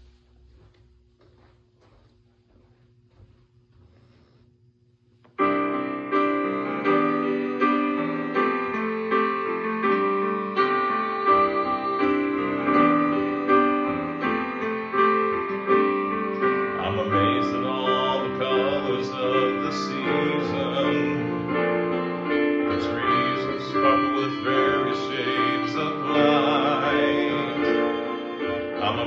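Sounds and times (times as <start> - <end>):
electronic keyboard playing piano chords: 5.4 - 29.0.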